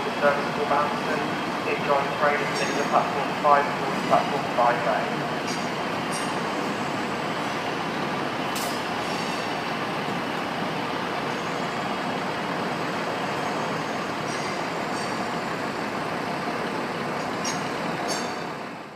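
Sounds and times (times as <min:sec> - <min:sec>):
train running: 0:00.0 - 0:18.9.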